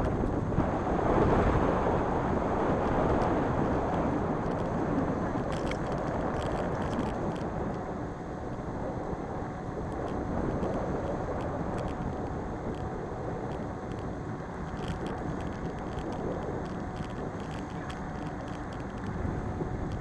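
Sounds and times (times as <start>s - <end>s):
wheel and road noise: 0.0s - 20.0s
wind on microphone: 0.0s - 20.0s.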